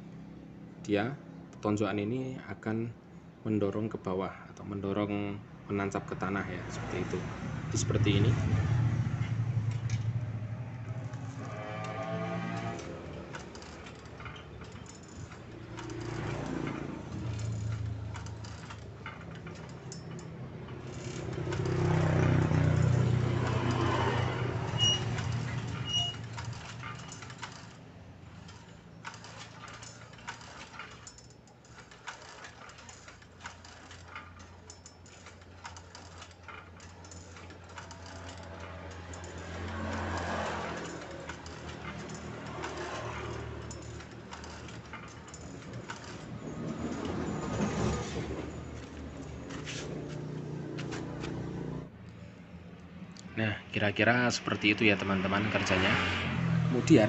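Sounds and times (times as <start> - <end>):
metal mechanism clinking and rattling: 5.9 - 53.2.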